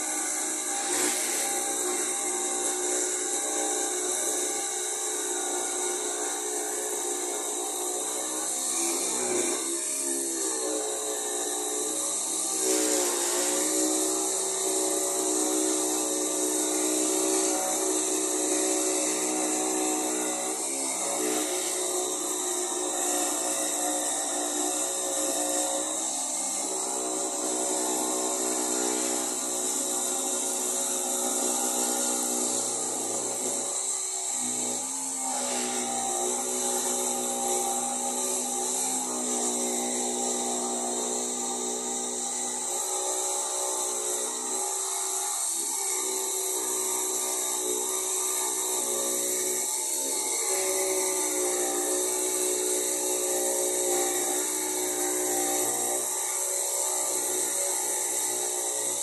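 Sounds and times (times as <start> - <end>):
electric jigsaw cutting panel: 0.0 - 59.0.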